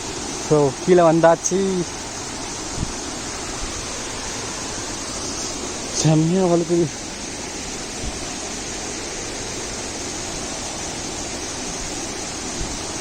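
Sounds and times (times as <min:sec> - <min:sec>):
waterfall pouring: 0:00.0 - 0:13.0.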